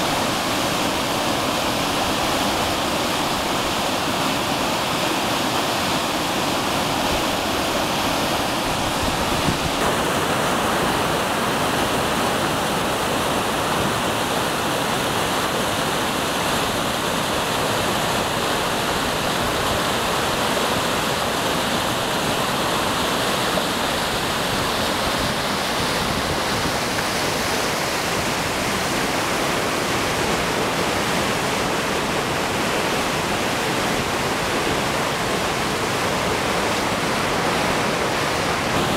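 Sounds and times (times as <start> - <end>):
whitewater rushing: 0.0 - 38.9.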